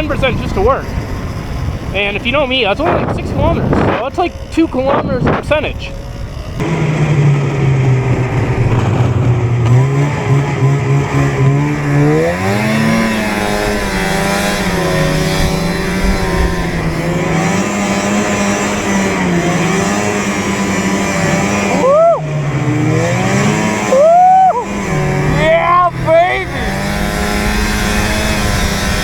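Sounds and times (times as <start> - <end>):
vehicle motor droning: 0.0 - 29.0.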